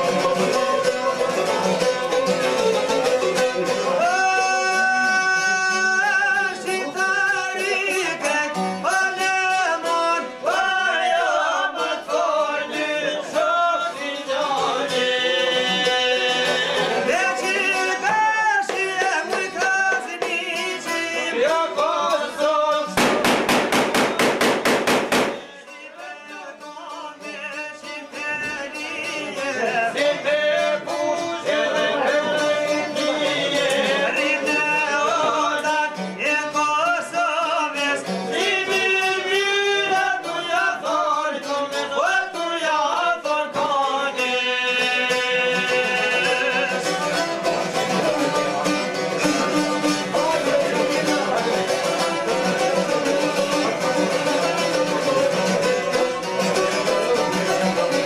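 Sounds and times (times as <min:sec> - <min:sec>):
men singing in ornamented style: 0:00.0 - 0:23.3, 0:25.4 - 0:58.0
strummed long-necked lute: 0:00.0 - 0:58.0.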